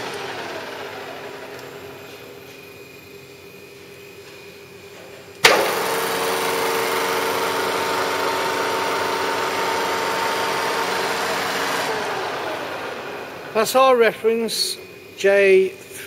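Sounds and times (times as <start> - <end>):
milling machine humming: 0.0 - 4.2, 5.4 - 15.2.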